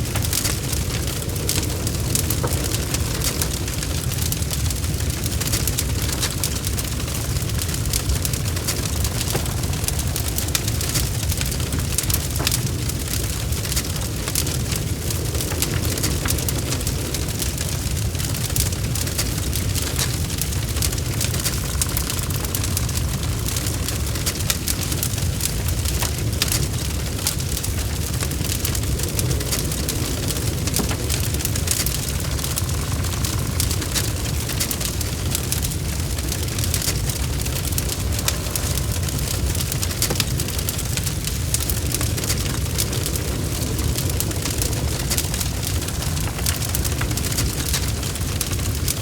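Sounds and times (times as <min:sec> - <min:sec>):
fire crackling and popping: 0:00.0 - 0:49.0
low rumble of flames: 0:00.0 - 0:49.0.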